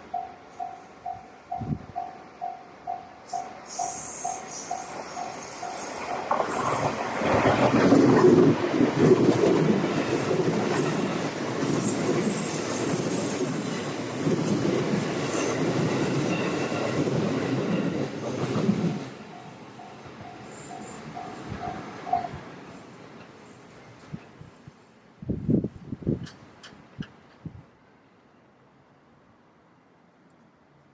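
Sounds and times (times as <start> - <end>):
train wheels on rails: 0.0 - 24.8.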